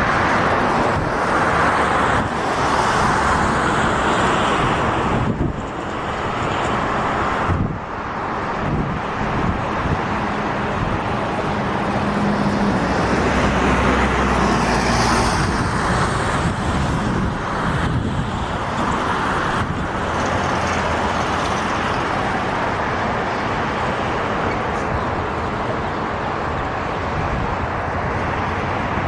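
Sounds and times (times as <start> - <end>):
freight train rolling on rails: 0.0 - 29.0
highway traffic rumble: 0.0 - 29.0
low engine hum: 0.0 - 29.0.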